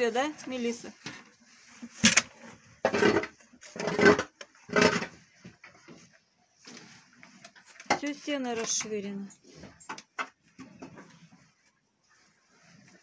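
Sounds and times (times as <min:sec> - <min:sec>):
cow feeding from metal bucket: 0:00.0 - 0:13.0.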